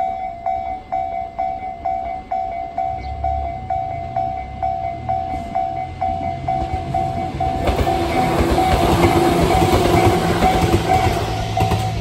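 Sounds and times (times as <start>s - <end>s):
electric train passing: 0.0s - 12.0s
level crossing alarm bell: 0.0s - 12.0s.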